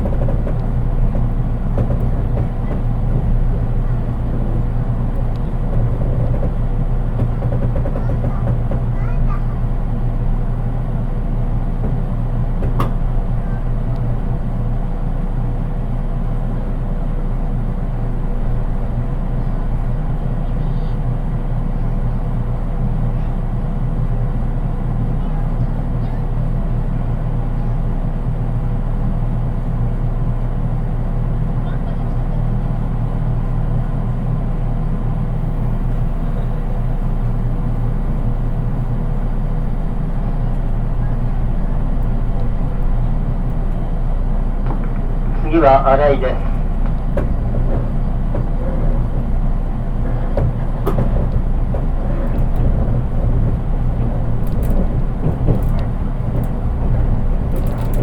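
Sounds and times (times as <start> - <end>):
faint constant hum: 0.0 - 58.0
train wheels rumbling on track: 0.0 - 58.0.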